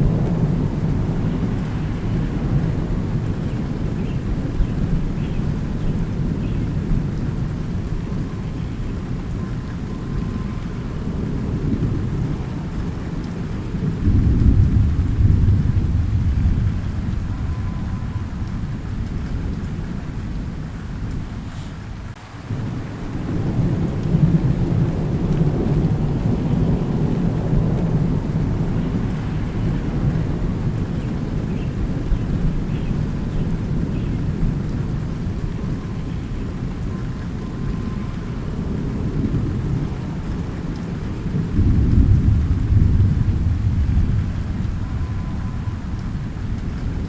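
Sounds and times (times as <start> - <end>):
rumbling thunder: 0.0 - 47.0
steady rain: 0.0 - 47.0.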